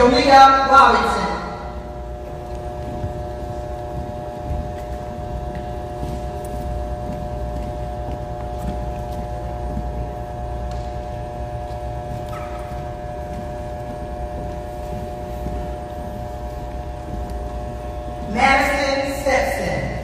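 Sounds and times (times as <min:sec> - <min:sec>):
gymnasium background hum: 0:00.0 - 0:20.0
heeled shoes clicking on floor: 0:01.1 - 0:19.2.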